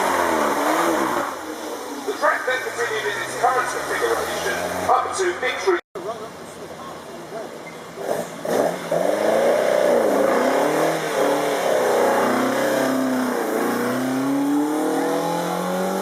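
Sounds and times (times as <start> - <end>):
race car engine accelerating: 0.0 - 5.3, 7.9 - 16.0.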